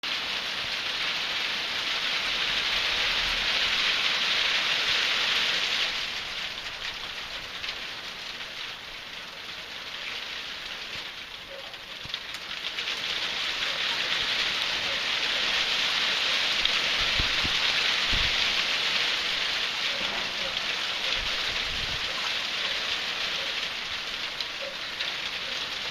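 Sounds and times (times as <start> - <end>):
hail pattering: 0.0 - 25.9.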